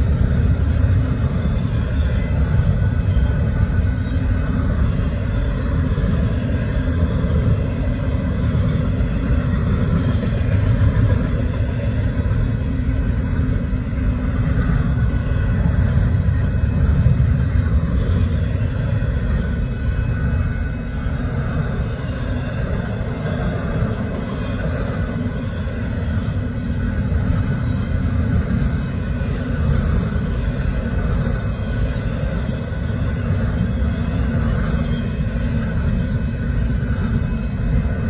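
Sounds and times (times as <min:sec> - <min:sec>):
freight train cars rumbling on rails: 0:00.0 - 0:38.0.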